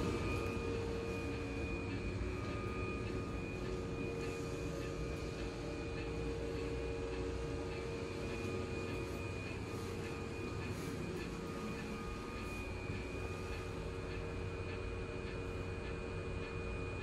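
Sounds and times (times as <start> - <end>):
train car equipment hum: 0.0 - 17.0.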